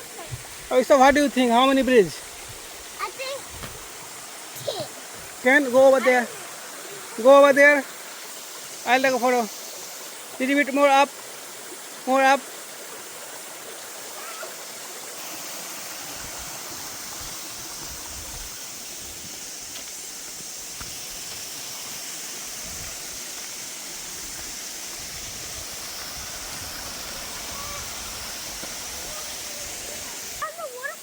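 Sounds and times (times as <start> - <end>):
stream and waterfall rushing: 0.0 - 31.0.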